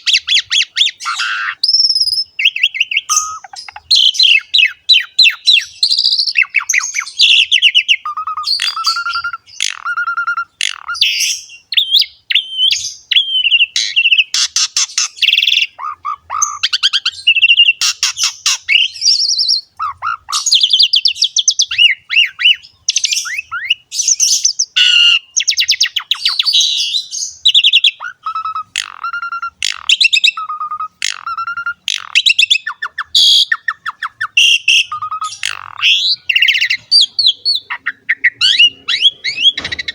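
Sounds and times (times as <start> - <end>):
starling singing whistles and chatter: 0.0 - 39.9.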